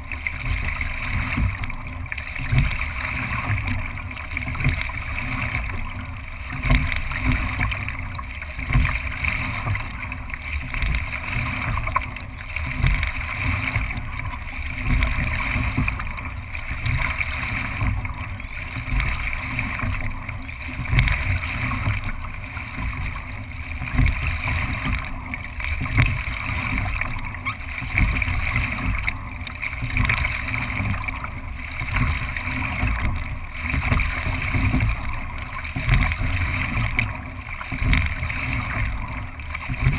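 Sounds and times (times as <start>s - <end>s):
water rushing along hull: 0.0s - 39.9s.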